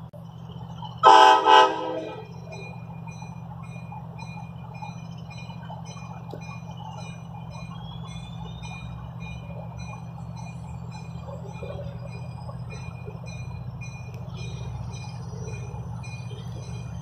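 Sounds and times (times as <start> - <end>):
rapid high-pitched dinging bell: 2.4 - 17.0.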